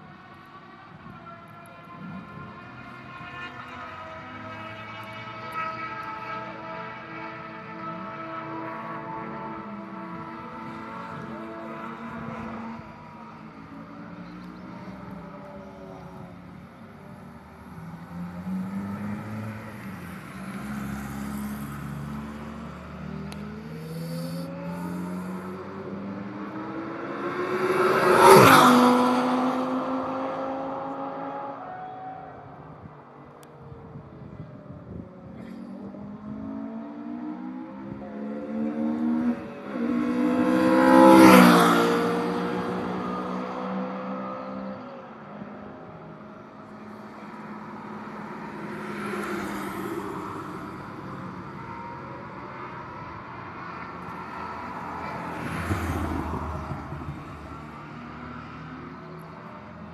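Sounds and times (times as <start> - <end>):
sports car engines: 0.0 - 59.9.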